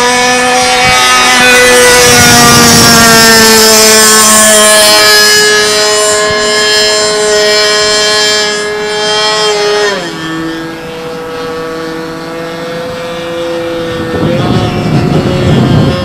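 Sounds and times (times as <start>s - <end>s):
model airplane engine whining: 0.0s - 16.0s.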